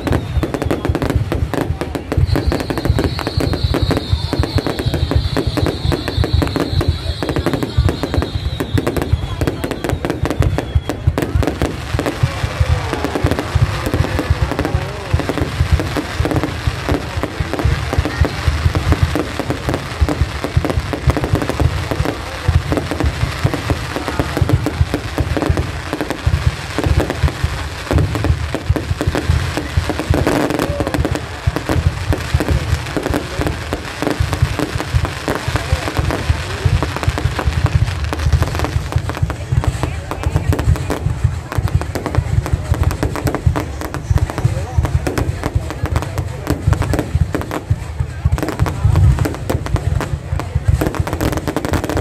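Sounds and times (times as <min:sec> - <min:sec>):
firework bangs and crackling: 0:00.0 - 0:52.0.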